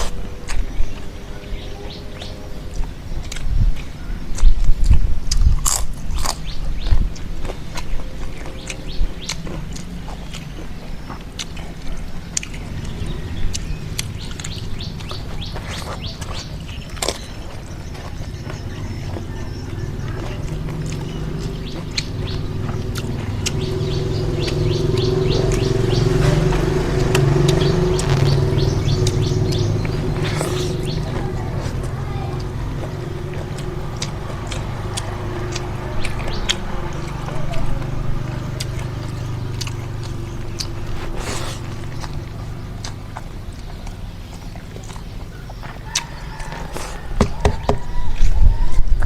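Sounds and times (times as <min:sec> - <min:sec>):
wet mouth clicks and chewing: 0:00.0 - 0:01.6, 0:02.2 - 0:47.2
motor hum: 0:00.0 - 0:47.8
small birds chirping: 0:00.0 - 0:49.0.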